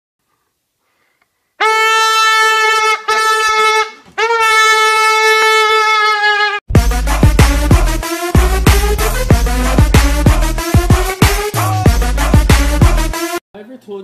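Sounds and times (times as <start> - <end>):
loud horn blasts: 1.6 - 13.4.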